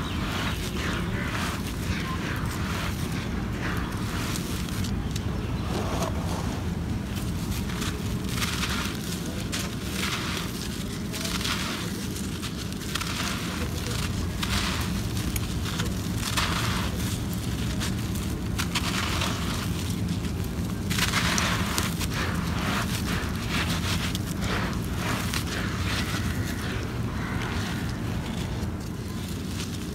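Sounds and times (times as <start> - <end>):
dry dirt crunching under fingers: 0.0 - 29.9
low rumble: 0.0 - 29.9.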